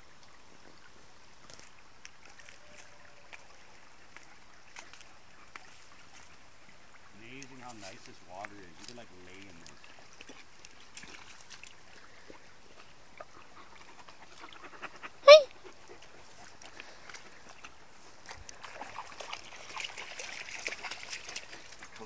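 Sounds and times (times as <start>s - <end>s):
creek trickling: 0.0s - 22.0s.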